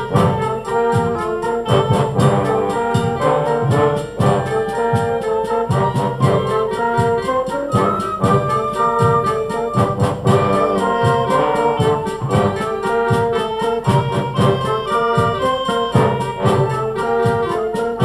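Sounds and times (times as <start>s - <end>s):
drum and cymbal strokes: 0.0s - 18.0s
trumpets and trombones: 0.0s - 18.0s.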